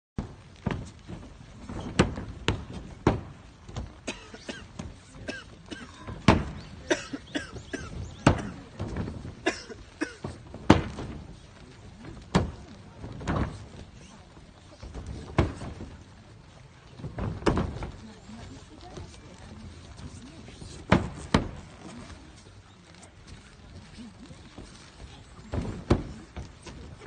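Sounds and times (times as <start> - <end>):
bodies slapping and thudding on mats: 0.2 - 27.0.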